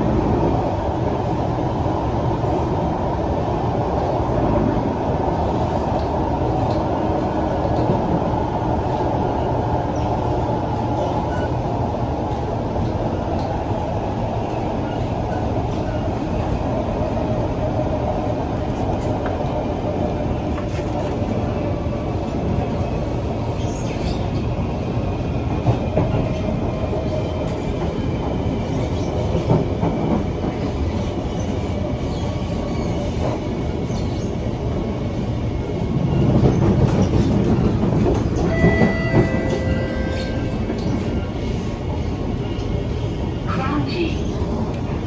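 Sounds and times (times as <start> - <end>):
metro car wheels rumbling on rail: 0.0 - 45.0.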